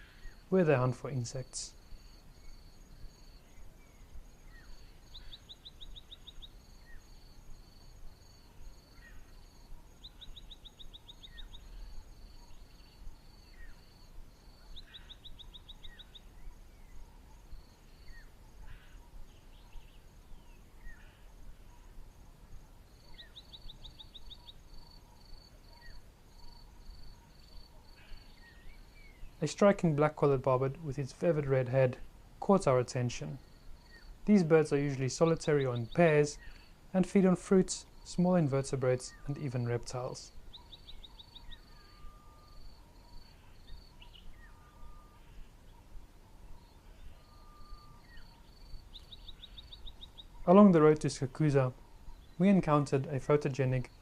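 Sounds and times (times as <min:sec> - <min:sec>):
faint chirps: 0:00.0 - 0:32.1, 0:32.7 - 0:54.0.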